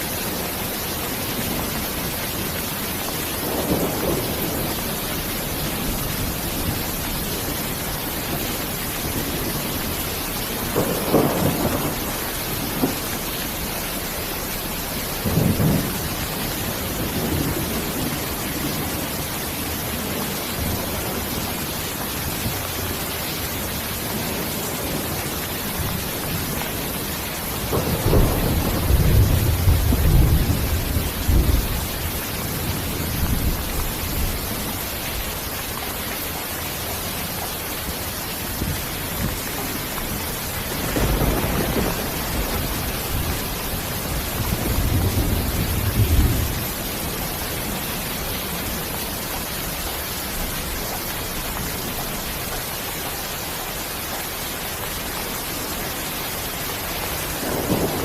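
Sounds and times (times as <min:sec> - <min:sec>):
steady rain: 0:00.0 - 0:58.0
low rolls of thunder: 0:00.1 - 0:23.0, 0:23.7 - 0:35.8, 0:36.7 - 0:52.2, 0:56.8 - 0:58.0.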